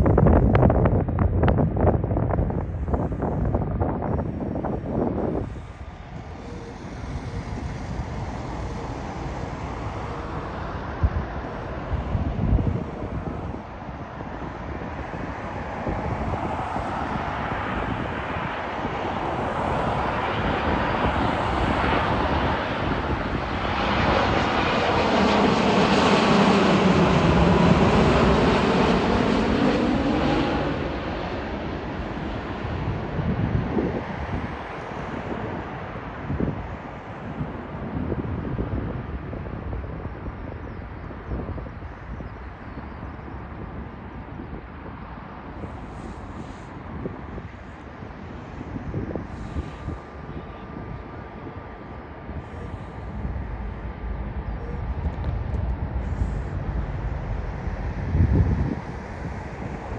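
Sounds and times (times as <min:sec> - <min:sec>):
jet airliner passing: 0:00.0 - 0:59.9
wind buffeting microphone: 0:00.0 - 0:59.9.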